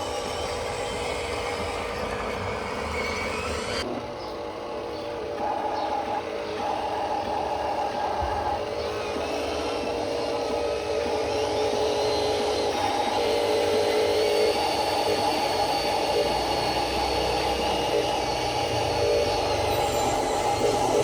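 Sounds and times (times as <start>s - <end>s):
electric motors whirring: 0.0s - 3.9s, 4.5s - 21.0s
high gear whine: 0.0s - 21.0s.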